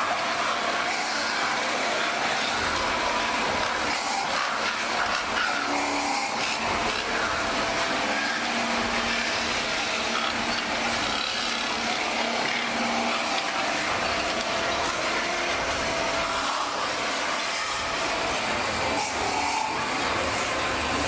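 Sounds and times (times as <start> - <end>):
cutting tool scraping metal: 0.0 - 21.0
lathe spinning: 0.0 - 21.0.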